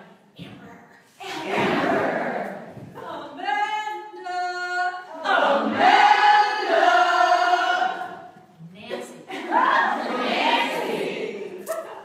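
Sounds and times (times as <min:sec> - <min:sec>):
women singing together: 0:01.2 - 0:12.0.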